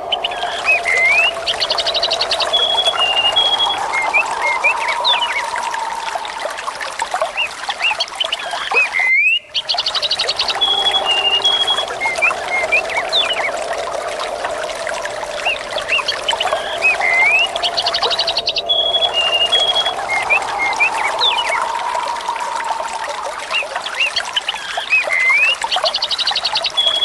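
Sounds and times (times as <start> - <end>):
birds chirping: 0.0 - 27.0
stream water trickling: 0.0 - 27.0.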